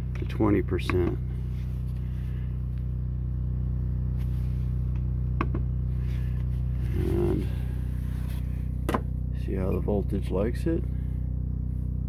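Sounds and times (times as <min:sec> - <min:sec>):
diesel generator humming: 0:00.0 - 0:12.0.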